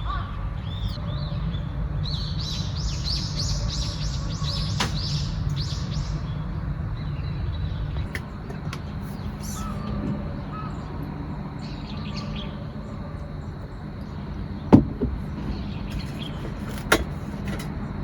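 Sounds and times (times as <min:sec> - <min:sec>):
birds chirping: 0:00.6 - 0:18.0
low hum: 0:00.6 - 0:18.0.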